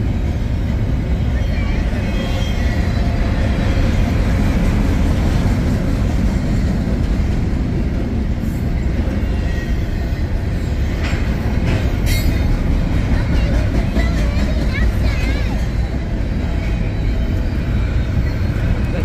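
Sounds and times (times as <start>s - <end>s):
freight train rumbling past: 0.0s - 19.0s
sharp train clatters: 0.0s - 19.0s.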